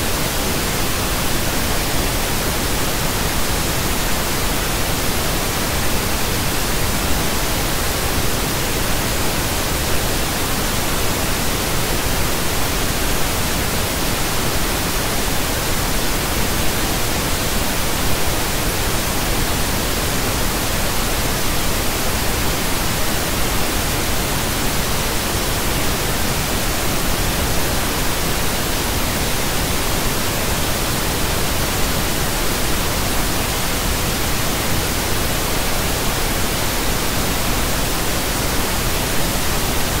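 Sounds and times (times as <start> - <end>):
pink noise hiss: 0.0 - 40.0.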